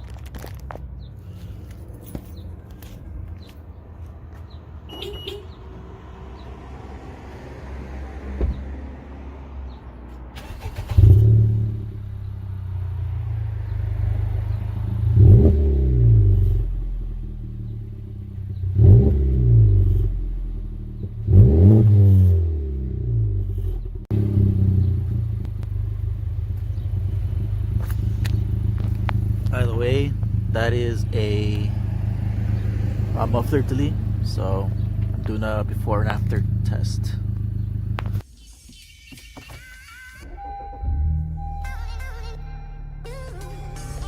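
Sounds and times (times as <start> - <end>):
car engine idling and revving: 0.0 - 38.3, 40.2 - 44.0.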